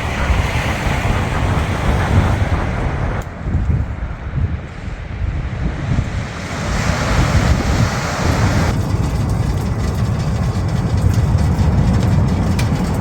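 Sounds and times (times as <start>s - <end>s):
loud rushing wash: 0.0s - 10.7s
wind buffeting microphone: 0.0s - 13.0s.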